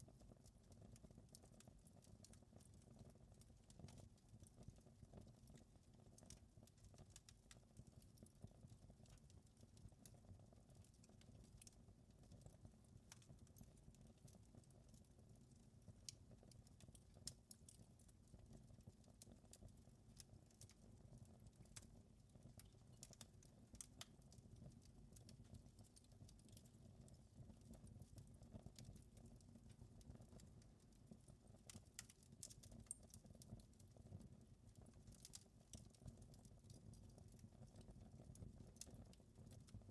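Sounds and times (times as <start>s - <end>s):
wood fire crackling: 0.2s - 39.9s.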